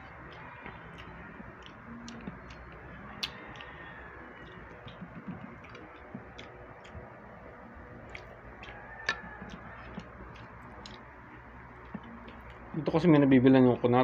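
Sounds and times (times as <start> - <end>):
eating clicks and smacks: 0.0 - 13.3
low room hum: 0.0 - 14.0.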